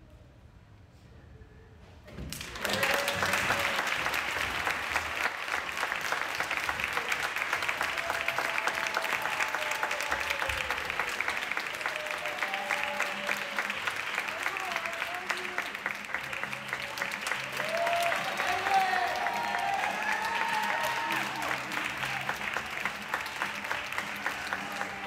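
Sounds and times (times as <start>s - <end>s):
audience clapping: 2.3s - 25.0s.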